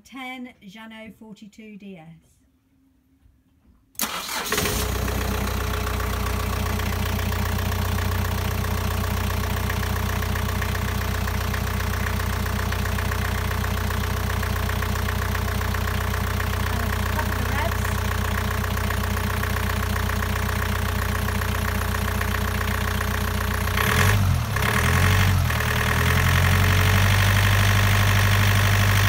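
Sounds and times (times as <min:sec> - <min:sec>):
diesel engine cranking and idling: 0:04.0 - 0:29.0.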